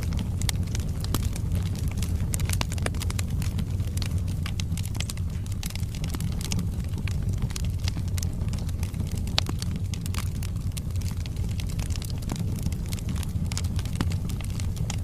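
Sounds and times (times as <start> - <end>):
burning logs crackling: 0.0 - 15.0
fire flames rumbling: 0.0 - 15.0.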